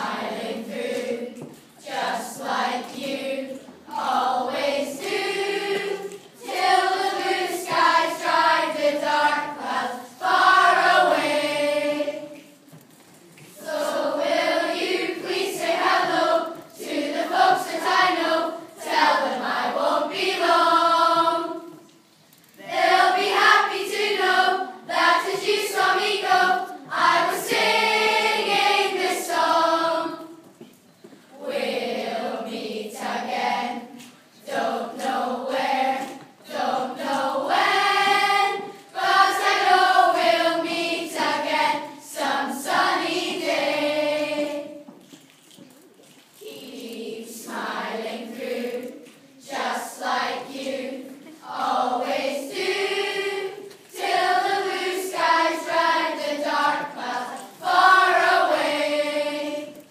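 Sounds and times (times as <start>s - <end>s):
children's choir singing: 0.0s - 45.2s, 46.4s - 59.9s.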